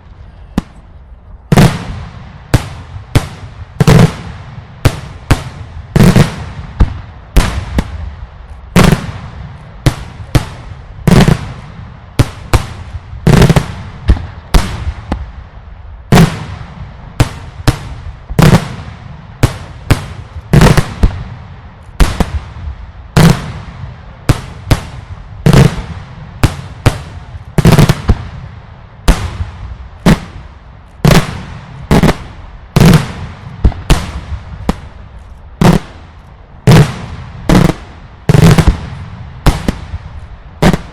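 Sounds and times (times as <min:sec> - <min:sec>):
fireworks bangs with echo: 0:01.5 - 0:40.9.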